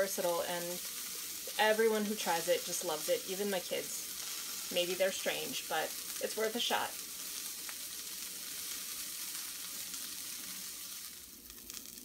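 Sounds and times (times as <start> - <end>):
vegetables sizzling in hot fat: 0.0 - 12.0.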